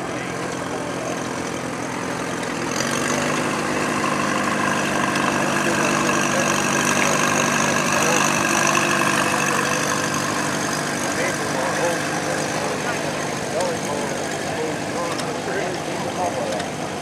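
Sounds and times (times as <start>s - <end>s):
tractor engine driving past: 0.0s - 17.0s.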